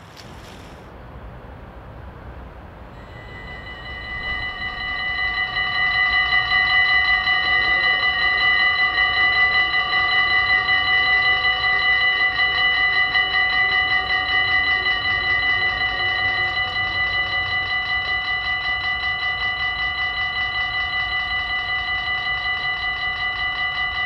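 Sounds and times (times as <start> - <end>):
low hum: 0.0 - 24.0
level crossing bells ringing: 3.0 - 24.0.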